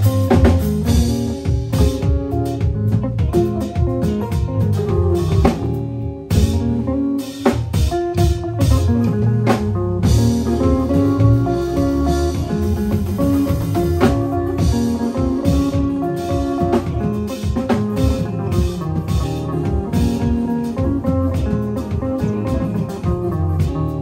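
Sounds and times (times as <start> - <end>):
drum kit and cymbals: 0.0 - 24.0
electric guitar holding notes: 0.0 - 24.0.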